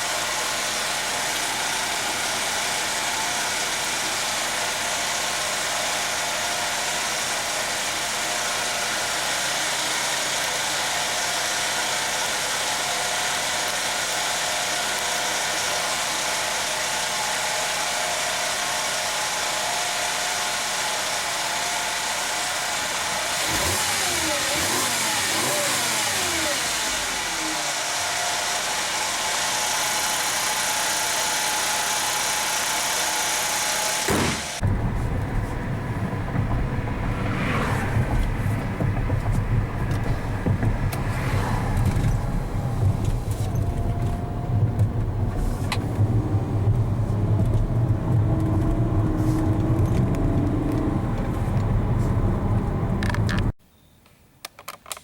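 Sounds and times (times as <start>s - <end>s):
car engine idling and revving: 0.0s - 53.6s.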